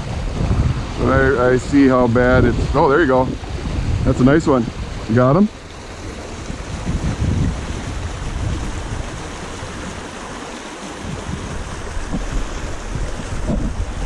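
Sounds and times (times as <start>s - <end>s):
stream rushing over rocks: 0.0s - 14.0s
wind buffeting microphone: 0.0s - 14.0s.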